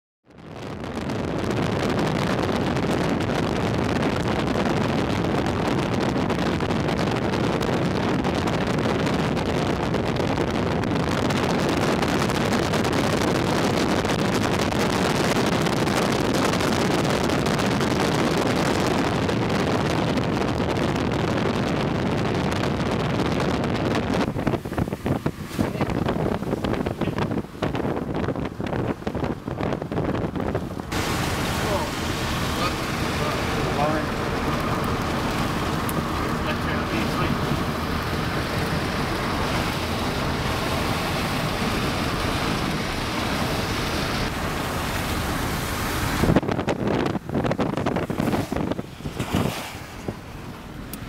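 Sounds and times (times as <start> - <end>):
car road and wind noise: 0.2 - 51.0
wind buffeting microphone: 0.3 - 51.0.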